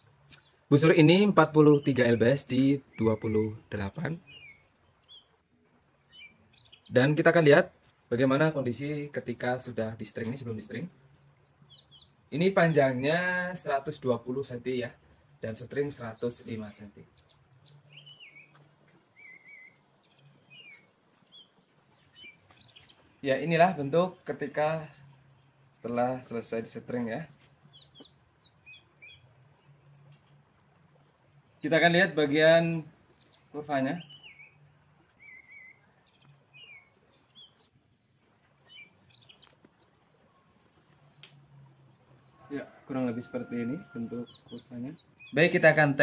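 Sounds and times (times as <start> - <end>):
warbling bird chirps: 6.0 - 46.0.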